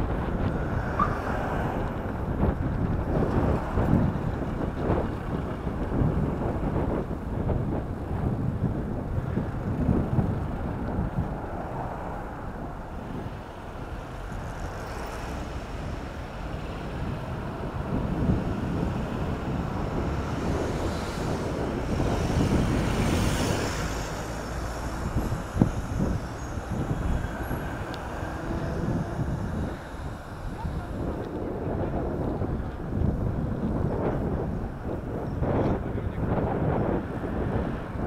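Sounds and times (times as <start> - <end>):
city traffic noise: 0.0 - 38.0
wind rumbling on microphone: 0.0 - 38.0.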